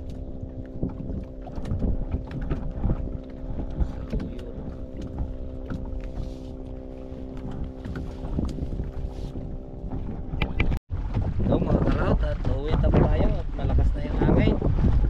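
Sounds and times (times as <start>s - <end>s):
small boat engine running: 0.0s - 15.0s
water splashes: 0.0s - 15.0s.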